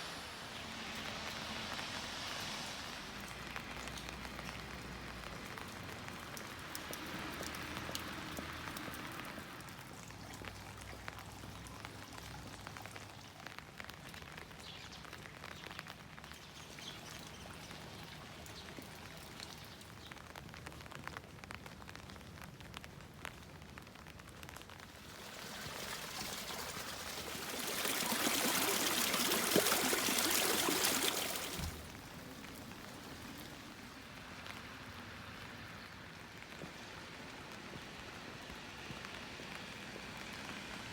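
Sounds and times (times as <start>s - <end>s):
rain falling: 0.0s - 40.9s
raindrops ticking: 0.9s - 40.9s.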